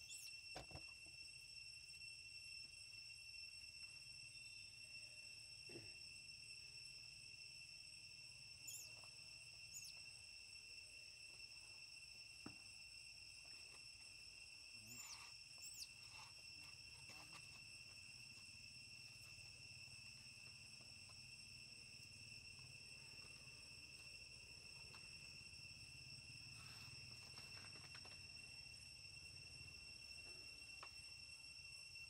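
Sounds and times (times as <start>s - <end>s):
forest insects droning: 0.0s - 32.0s.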